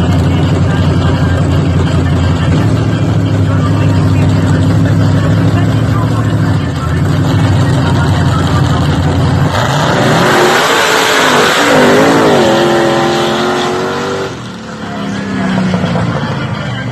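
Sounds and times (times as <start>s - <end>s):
truck engine revving hard: 0.0s - 16.9s.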